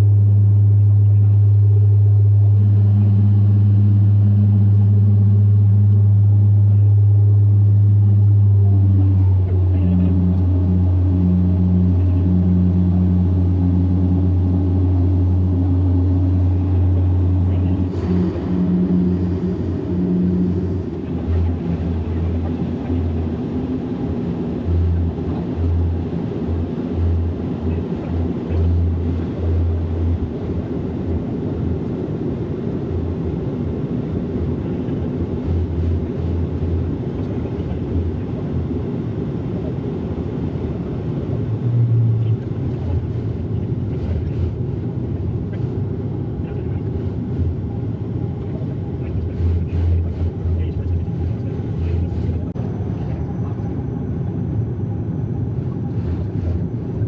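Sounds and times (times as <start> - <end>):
airliner cabin engine drone: 0.0 - 57.0.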